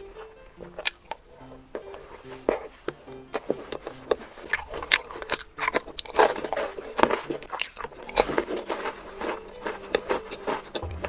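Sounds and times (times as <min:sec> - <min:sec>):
chocolate crunching while chewed: 0:00.6 - 0:10.9.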